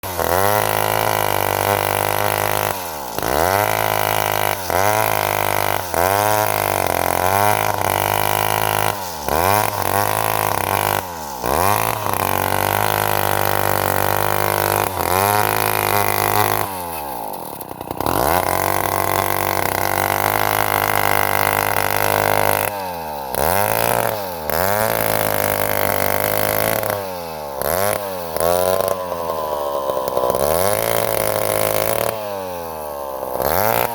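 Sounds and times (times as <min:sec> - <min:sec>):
chainsaw engine revving: 0:00.0 - 0:33.9.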